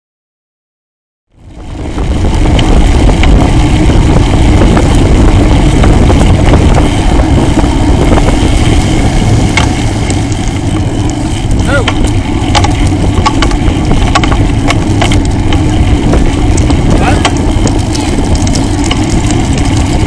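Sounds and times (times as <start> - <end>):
wind and road rumble: 1.3 - 20.0.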